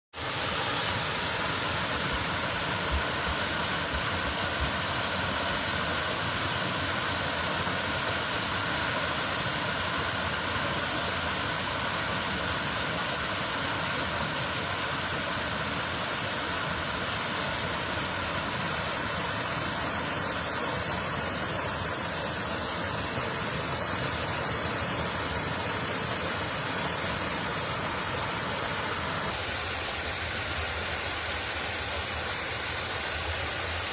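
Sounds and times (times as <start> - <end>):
fast-moving water rushing: 0.2 - 33.9.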